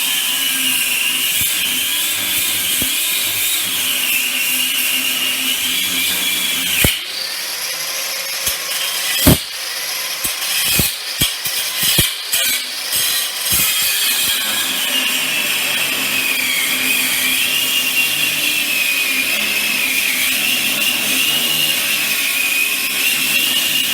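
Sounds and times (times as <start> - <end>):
power tool whining under load: 0.0 - 11.1, 13.5 - 23.9.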